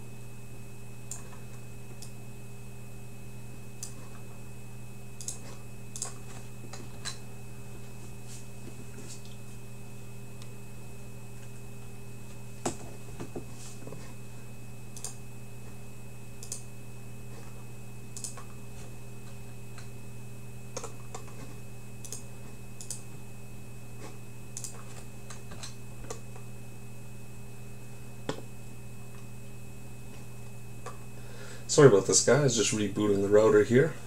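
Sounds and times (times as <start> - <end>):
electrical hum with high whine: 0.0 - 34.0.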